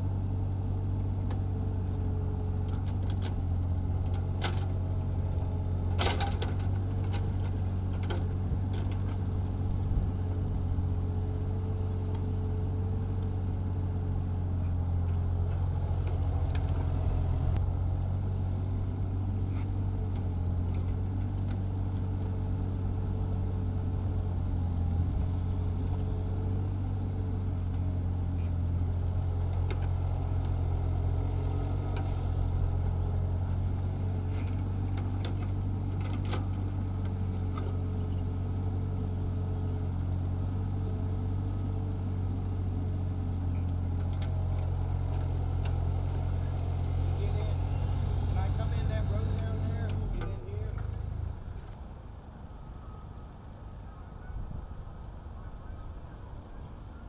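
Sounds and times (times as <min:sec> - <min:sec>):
excavator diesel engine running: 0:00.0 - 0:54.2.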